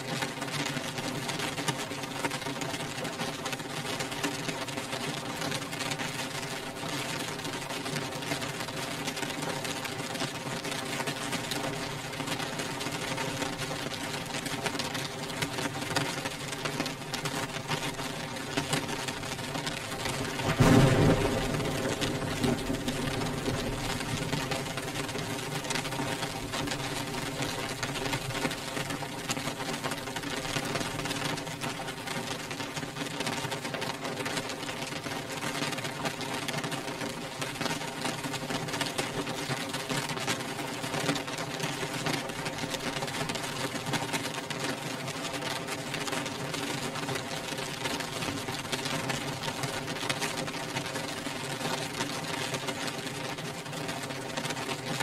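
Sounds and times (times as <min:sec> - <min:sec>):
rain on a glass window: 0:00.0 - 0:55.0.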